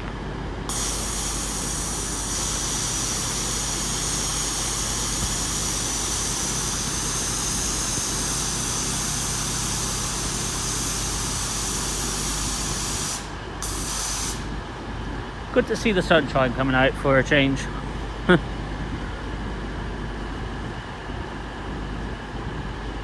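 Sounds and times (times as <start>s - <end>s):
train engines running: 0.0s - 22.9s.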